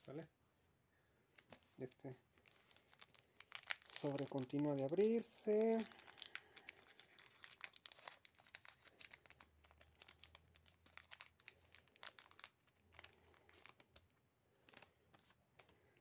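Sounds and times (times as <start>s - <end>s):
foil wrappers crinkling: 2.4s - 16.0s.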